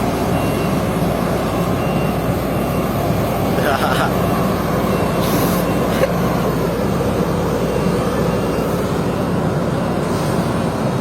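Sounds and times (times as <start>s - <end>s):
heavy machinery engine drone: 0.0s - 11.0s.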